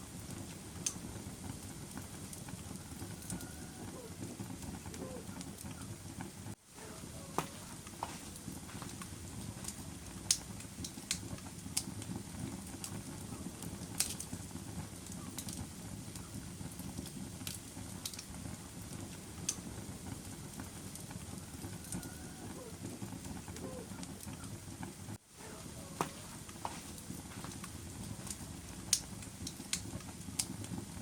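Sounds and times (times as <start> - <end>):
fire crackling and popping: 0.0 - 31.0
flames rushing: 0.0 - 31.0.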